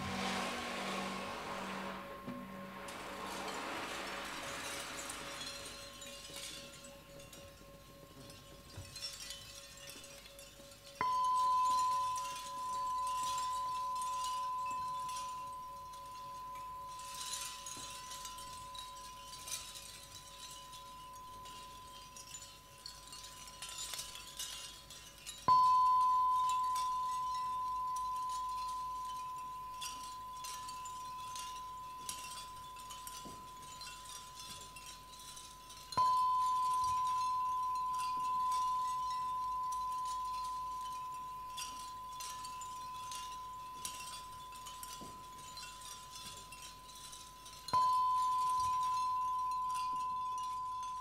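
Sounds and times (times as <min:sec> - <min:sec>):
chime ringing bell-like tone: 0:00.0 - 0:51.0
faint high tinkling wind chimes: 0:00.0 - 0:51.0.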